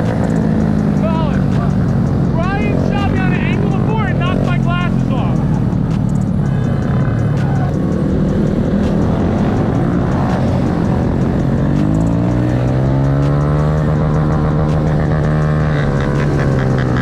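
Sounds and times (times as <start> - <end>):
vehicle engine accelerating: 0.0 - 17.0.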